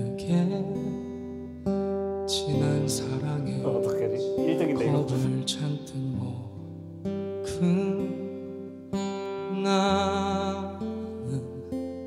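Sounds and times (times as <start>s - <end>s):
strummed acoustic guitar ballad: 0.0s - 12.0s.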